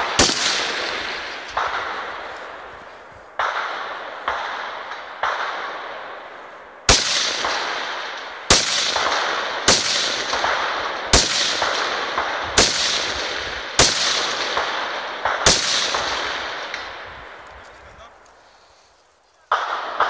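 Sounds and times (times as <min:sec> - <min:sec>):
rifle shots echoing: 0:00.0 - 0:17.8, 0:19.5 - 0:20.0.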